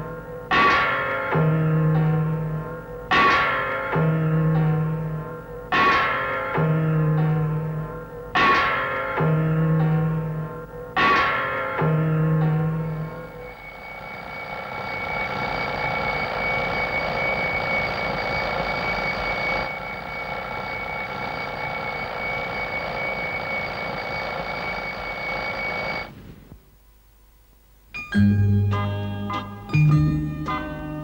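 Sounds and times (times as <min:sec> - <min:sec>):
alarm clock bell ringing: 0:00.5 - 0:10.4, 0:11.0 - 0:26.1.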